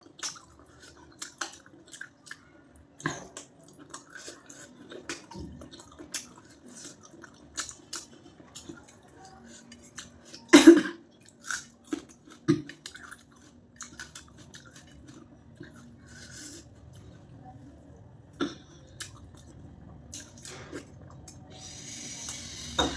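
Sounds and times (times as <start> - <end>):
person chewing: 0.1 - 2.4, 3.0 - 10.5, 11.2 - 17.2, 18.4 - 21.4.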